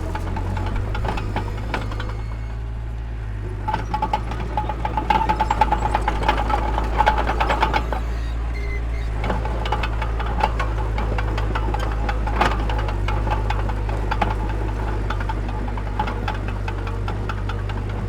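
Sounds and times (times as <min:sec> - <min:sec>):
machinery squealing: 0:00.0 - 0:02.8, 0:03.4 - 0:18.0
diesel engine rumbling: 0:00.0 - 0:18.0
metallic clanking and rattling: 0:00.0 - 0:18.0.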